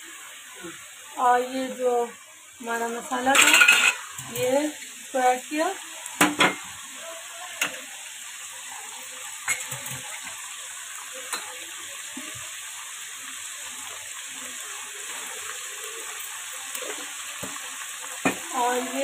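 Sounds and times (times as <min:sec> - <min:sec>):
hot oil sizzling in a pan: 0:00.0 - 0:19.0.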